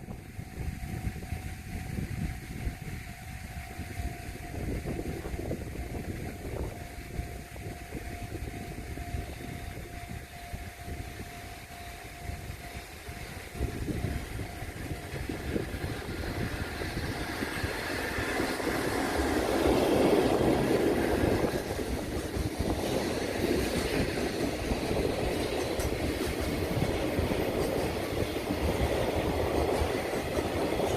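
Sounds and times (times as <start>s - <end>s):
train wheel and rail noise: 0.0s - 30.9s.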